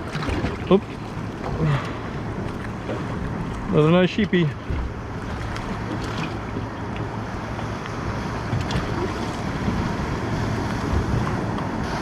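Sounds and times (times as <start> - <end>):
constant low rumble: 0.0 - 12.0
surf washing: 0.0 - 12.0
wind buffeting microphone: 0.0 - 12.0.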